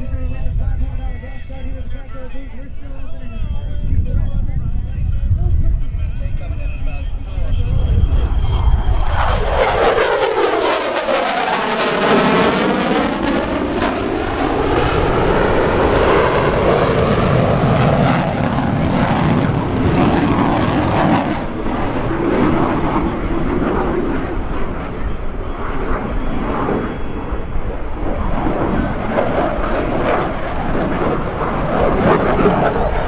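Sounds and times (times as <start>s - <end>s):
jet engines passing: 0.0s - 33.0s.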